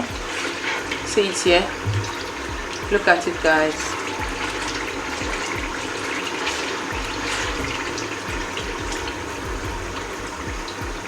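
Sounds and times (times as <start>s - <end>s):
oil crackles: 0.0s - 11.0s.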